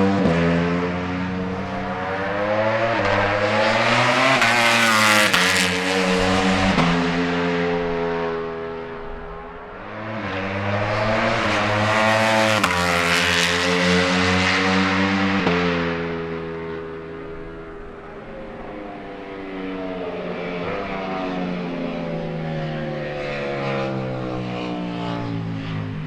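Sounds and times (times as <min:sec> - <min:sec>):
superbike engines revving and upshifting: 0:00.0 - 0:07.8, 0:10.0 - 0:26.0.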